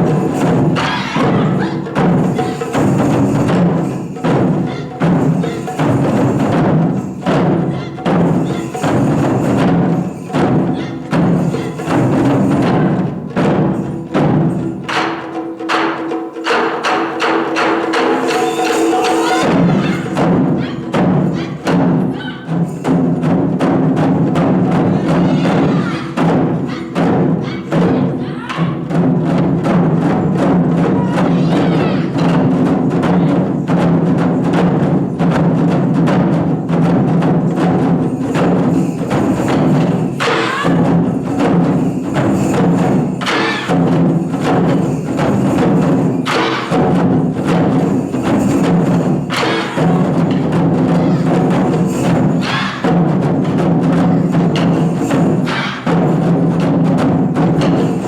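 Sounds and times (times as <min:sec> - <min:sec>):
taiko drums fast rhythm: 0:00.0 - 0:58.0.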